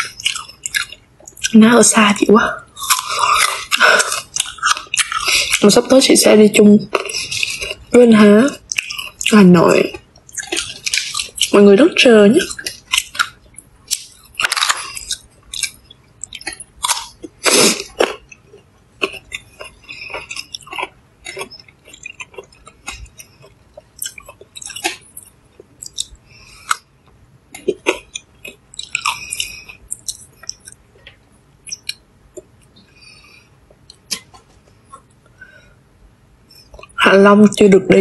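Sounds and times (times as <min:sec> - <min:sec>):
crunchy chewing of fruit: 0:00.0 - 0:01.6, 0:02.7 - 0:05.7, 0:06.9 - 0:08.0, 0:08.6 - 0:11.7, 0:12.4 - 0:35.6.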